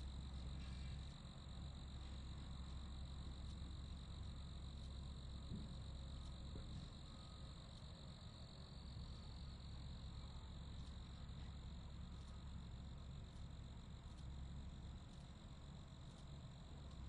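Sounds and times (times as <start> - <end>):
crickets chirping: 0.0 - 17.0
low background rumble: 0.0 - 17.0.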